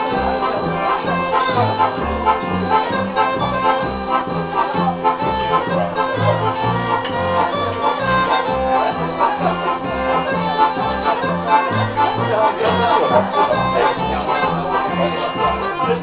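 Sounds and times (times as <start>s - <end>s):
bagpipe melody with drone: 0.0s - 16.0s
double bass low notes: 0.0s - 16.0s.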